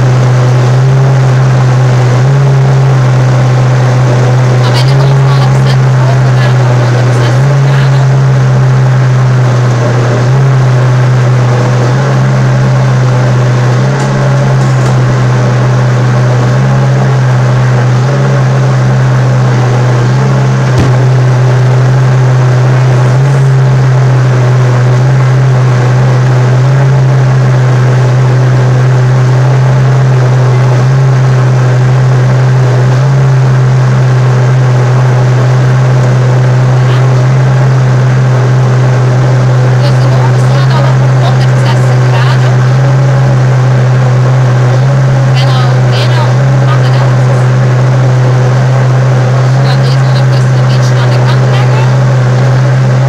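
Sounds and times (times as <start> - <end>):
blender motor running: 0.0 - 53.0.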